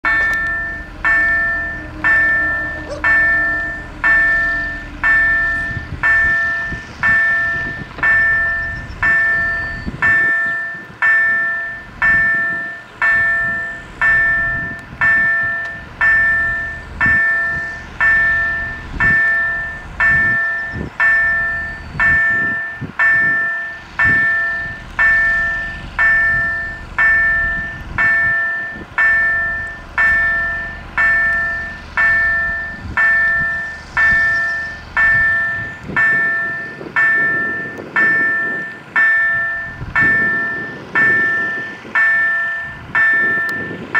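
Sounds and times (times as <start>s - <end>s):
level crossing warning bell: 0.0s - 43.9s.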